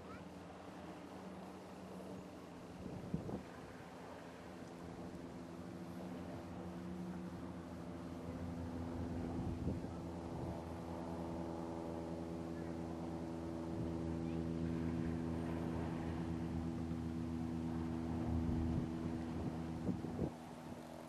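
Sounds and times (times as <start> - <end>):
steady engine hum: 0.0 - 21.0.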